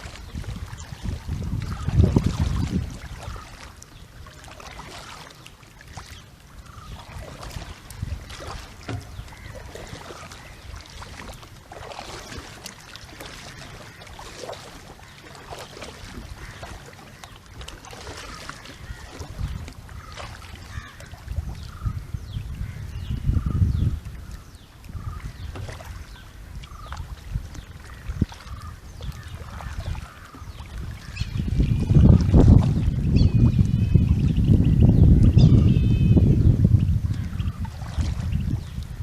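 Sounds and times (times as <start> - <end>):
water splashing against kayak: 0.0 - 39.0.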